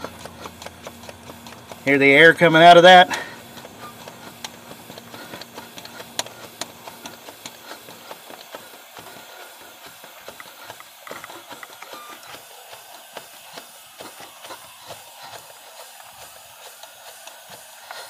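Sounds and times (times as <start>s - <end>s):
primer pump plunger clicks: 0.1s - 2.2s, 3.1s - 18.0s.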